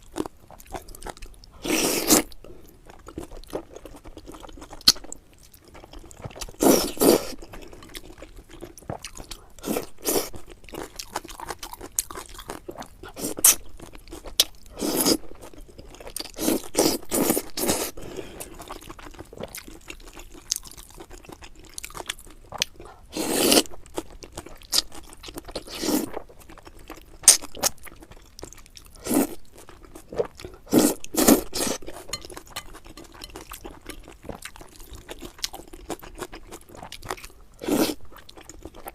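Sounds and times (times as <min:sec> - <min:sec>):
mouth chewing and crunching food: 0:00.0 - 0:38.9.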